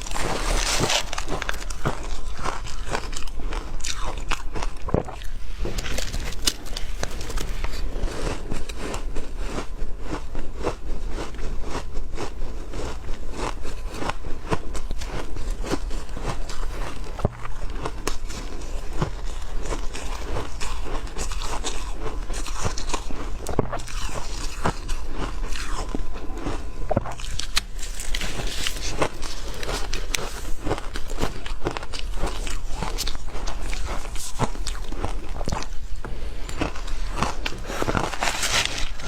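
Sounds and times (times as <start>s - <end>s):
chewing hard ice: 0.0s - 39.0s.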